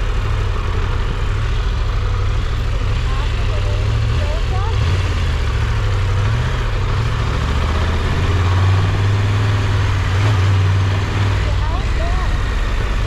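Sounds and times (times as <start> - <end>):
motorcycle engine humming: 0.0 - 13.0.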